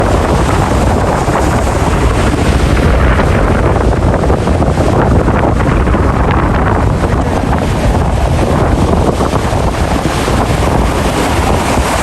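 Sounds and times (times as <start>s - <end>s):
ocean waves washing: 0.0s - 12.0s
wind buffeting microphone: 0.0s - 12.0s.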